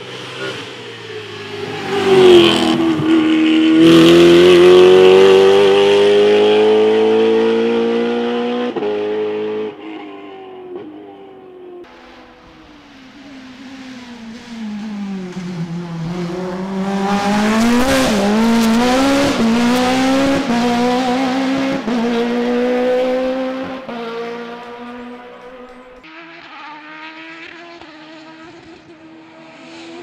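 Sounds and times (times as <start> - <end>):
race car engine passing: 0.0 - 30.0.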